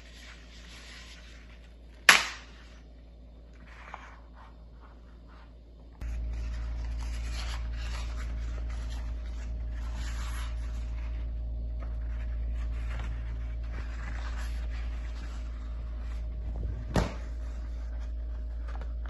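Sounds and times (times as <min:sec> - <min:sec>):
paper towel rustling: 0:00.0 - 0:03.0, 0:03.6 - 0:19.0
steady low hum: 0:00.0 - 0:19.0.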